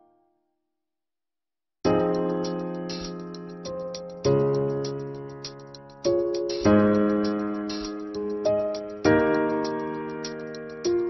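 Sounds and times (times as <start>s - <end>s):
light quick ticking: 1.9s - 11.0s
sustained keyboard chords: 1.9s - 11.0s.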